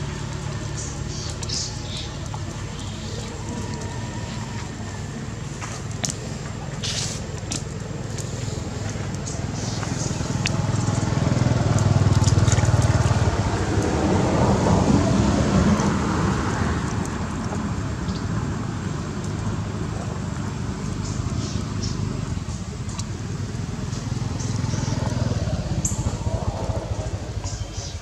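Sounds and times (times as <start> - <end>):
low rumbling noise: 0.0 - 28.0
small water splashes: 0.0 - 28.0.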